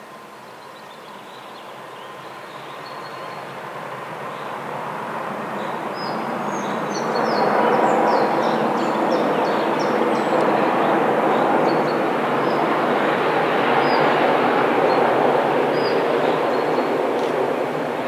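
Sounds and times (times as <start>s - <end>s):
train running past: 1.8s - 18.0s.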